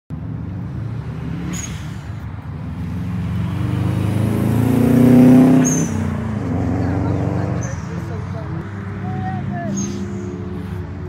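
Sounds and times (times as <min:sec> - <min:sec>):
car engine driving past: 0:00.2 - 0:11.0.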